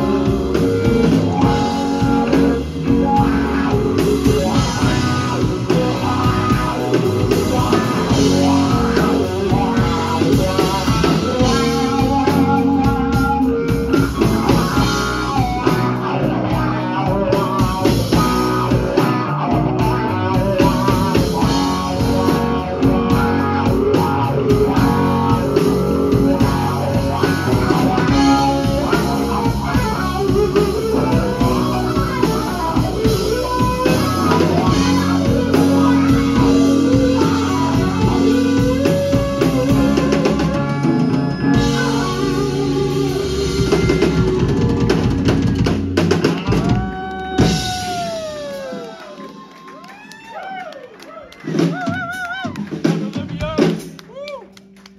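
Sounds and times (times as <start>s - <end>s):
electric guitar lead lines: 0.0s - 49.4s
drum kit: 0.0s - 50.6s, 51.4s - 54.9s.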